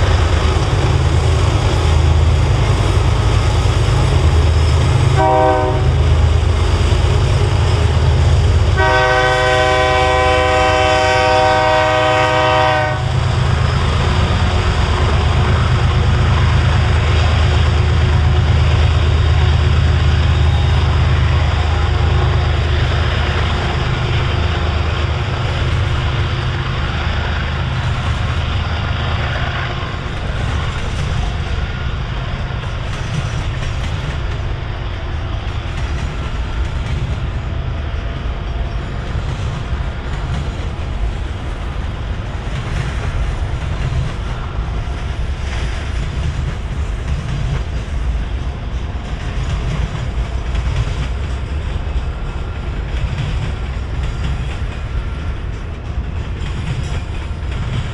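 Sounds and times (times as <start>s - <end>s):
deep train rumble: 0.0s - 57.9s
freight train wheels clattering: 0.0s - 57.9s.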